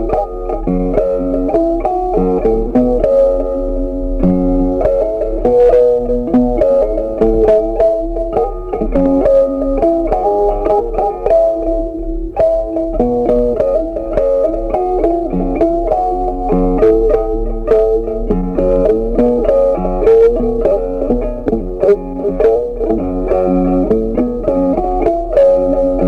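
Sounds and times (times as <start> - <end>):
plucked string melody: 0.0 - 26.0.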